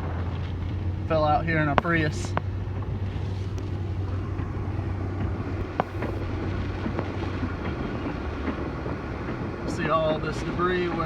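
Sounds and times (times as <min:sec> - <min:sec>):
vehicle hum and road noise: 0:00.0 - 0:11.0
wind rushing around vehicle: 0:00.0 - 0:11.0.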